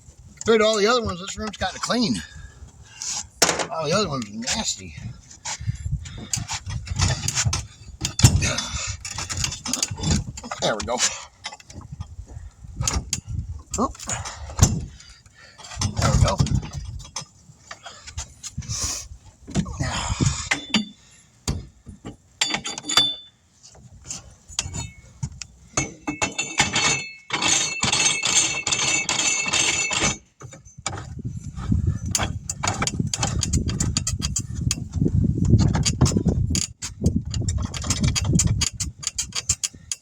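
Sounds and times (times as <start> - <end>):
metal tools clanking on rim: 0.3 - 18.7, 19.5 - 40.0.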